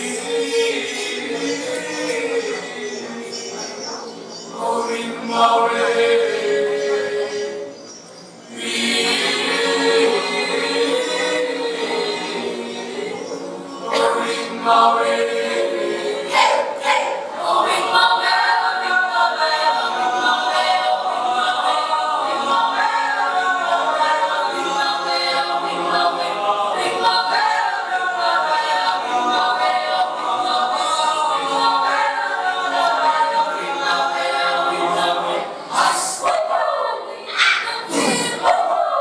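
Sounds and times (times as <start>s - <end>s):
mixed choir singing a cappella: 0.0s - 39.0s.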